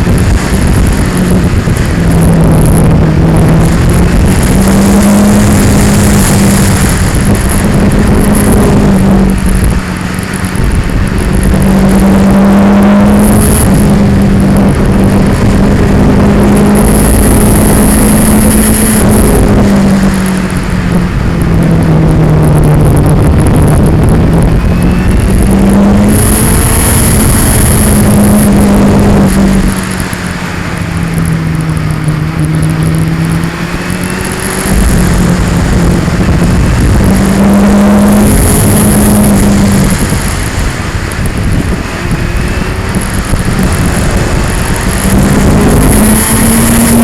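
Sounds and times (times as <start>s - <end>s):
camera vibration noise: 0.0s - 47.0s
loud rushing noise: 0.0s - 47.0s
motorcycle engine running: 0.0s - 47.0s.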